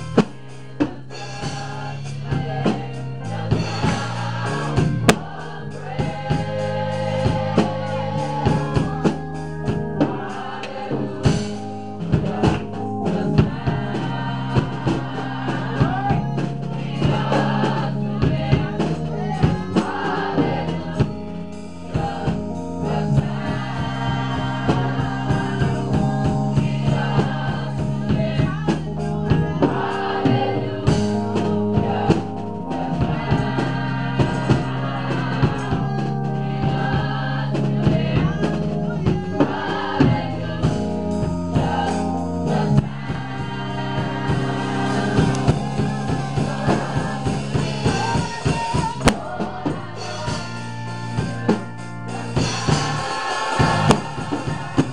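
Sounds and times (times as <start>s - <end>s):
bass: 0.0s - 54.9s
drum kit: 0.0s - 54.9s
gospel choir singing: 0.0s - 54.9s.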